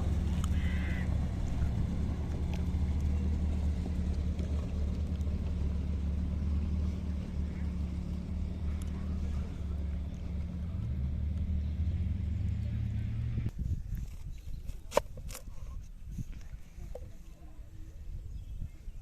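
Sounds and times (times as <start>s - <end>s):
low engine-like rumble: 0.0s - 19.0s.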